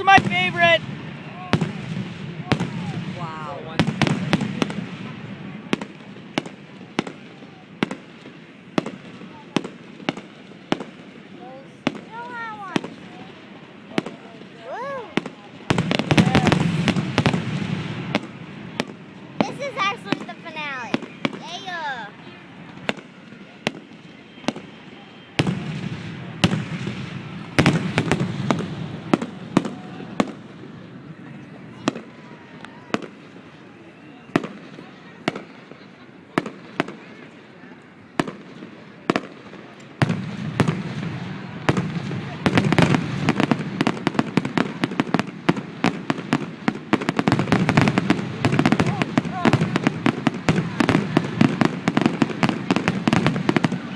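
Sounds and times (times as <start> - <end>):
fireworks bangs: 0.0 - 53.9
fireworks crackle and rumble: 0.0 - 53.9.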